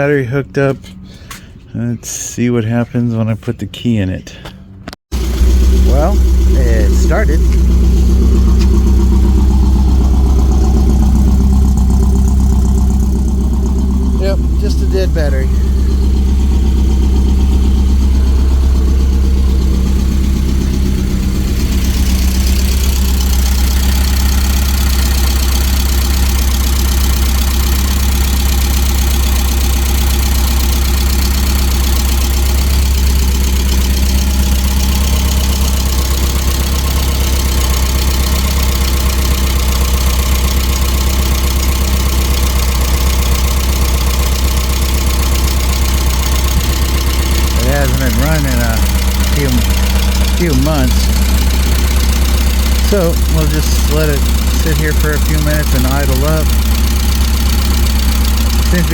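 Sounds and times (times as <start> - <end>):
car engine idling: 4.2 - 58.9.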